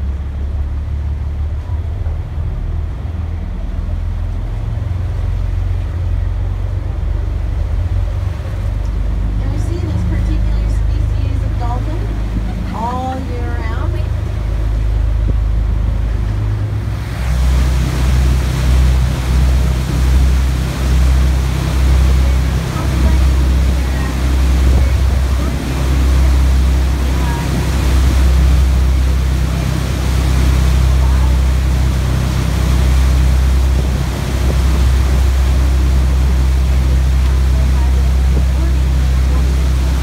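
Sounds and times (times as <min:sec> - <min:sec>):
boat engines droning: 0:00.0 - 0:40.0
churning wake rushing: 0:00.0 - 0:40.0
wind: 0:00.0 - 0:40.0.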